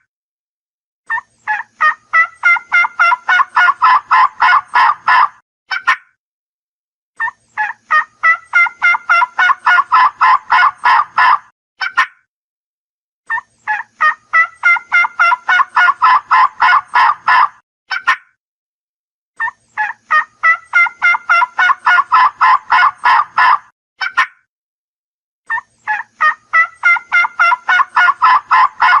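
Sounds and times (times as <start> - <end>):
turkey gobbling: 1.1 - 6.1, 7.2 - 12.2, 13.3 - 18.3, 19.4 - 24.4, 25.5 - 29.0.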